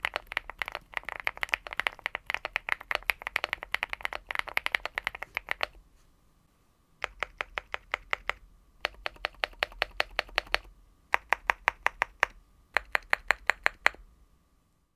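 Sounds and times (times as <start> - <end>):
keyboard keys typing: 0.0 - 5.8, 7.0 - 14.0.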